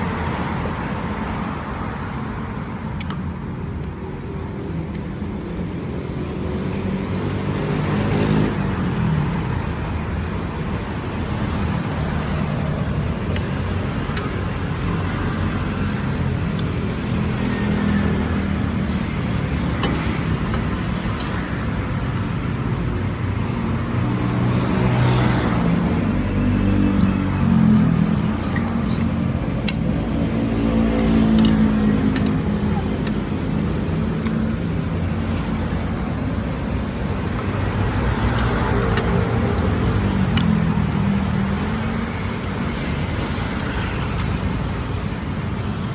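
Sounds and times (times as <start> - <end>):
motor vehicles rumbling: 0.0 - 45.9.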